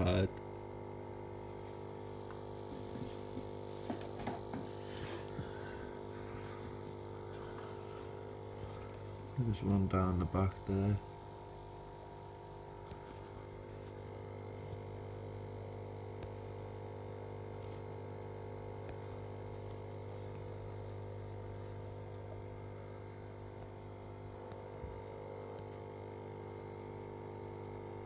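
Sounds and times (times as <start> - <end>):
aquarium pumps humming: 0.0 - 28.0.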